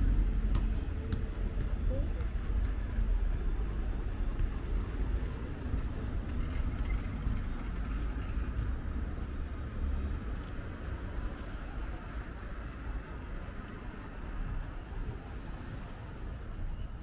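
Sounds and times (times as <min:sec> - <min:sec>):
cars driving on cobblestones: 0:00.0 - 0:17.0.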